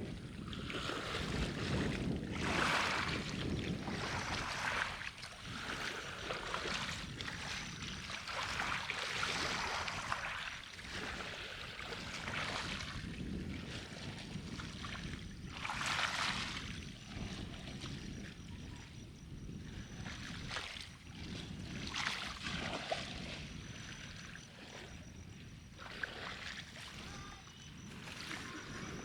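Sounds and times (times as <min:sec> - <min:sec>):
water: 0:00.0 - 0:29.0
wind on microphone: 0:00.0 - 0:29.0.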